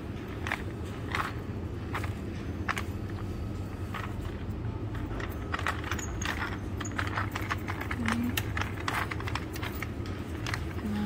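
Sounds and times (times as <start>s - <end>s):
low hum of supermarket: 0.0s - 11.0s.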